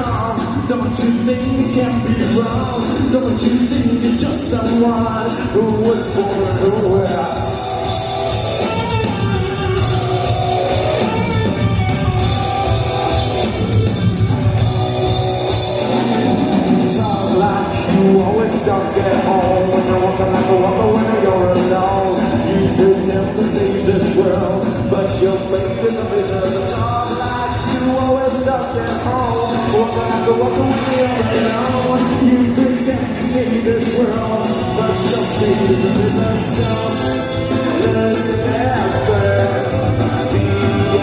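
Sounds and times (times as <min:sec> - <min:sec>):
person singing: 0:00.0 - 0:13.2, 0:15.8 - 0:41.0
drums: 0:00.0 - 0:41.0
guitar playing: 0:00.0 - 0:41.0
live rock band: 0:00.0 - 0:41.0.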